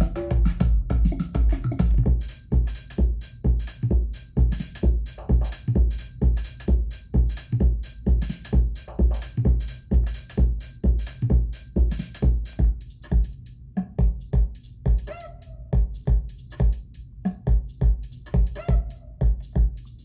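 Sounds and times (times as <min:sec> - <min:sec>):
hi-hat ticks: 0:00.0 - 0:15.2, 0:15.8 - 0:20.0
electronic bass drum: 0:00.0 - 0:20.0
electronic percussion: 0:00.0 - 0:20.0.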